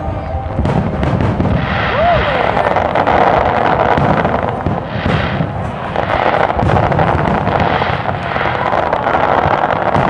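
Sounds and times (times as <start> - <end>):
firework shells bursting: 0.7 - 10.0.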